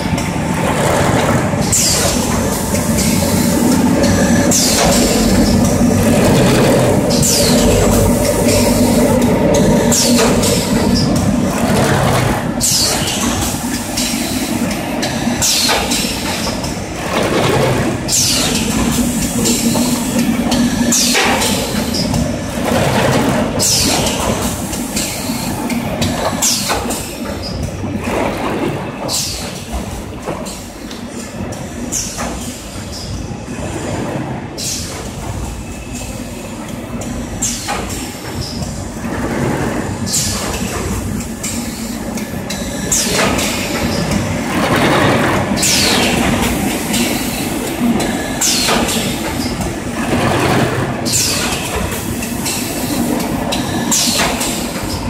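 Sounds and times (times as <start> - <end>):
machine hum and clattering: 0.0 - 55.0.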